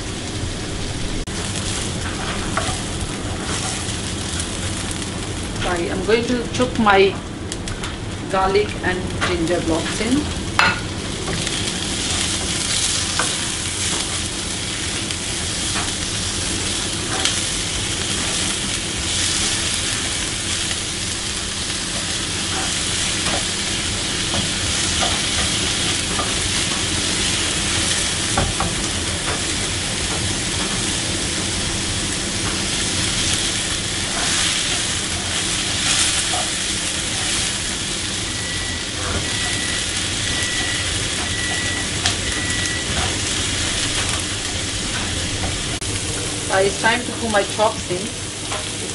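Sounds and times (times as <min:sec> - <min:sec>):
onions sizzling in frying pan: 0:00.0 - 0:48.9.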